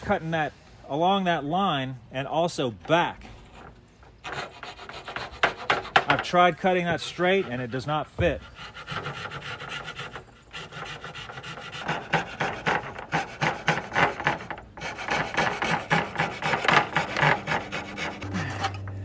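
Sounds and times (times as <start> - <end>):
coping saw rasping through wood: 3.3 - 18.9.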